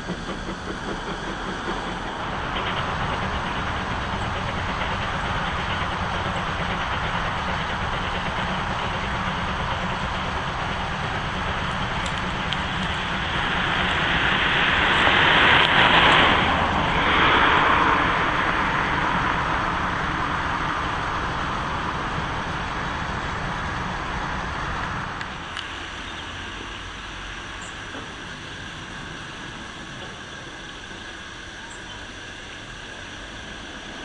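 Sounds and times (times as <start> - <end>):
steam train running past: 0.0 - 34.0.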